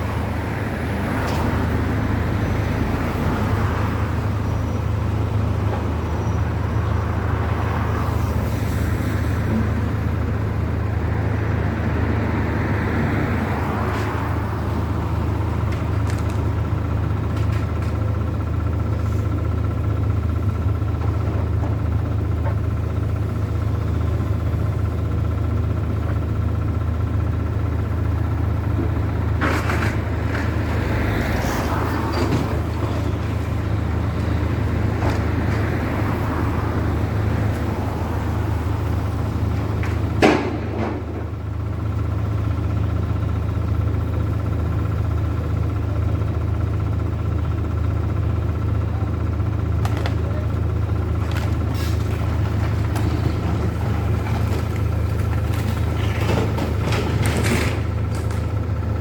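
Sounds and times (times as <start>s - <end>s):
cars passing by: 0.0s - 59.0s
steady low traffic rumble: 0.0s - 59.0s.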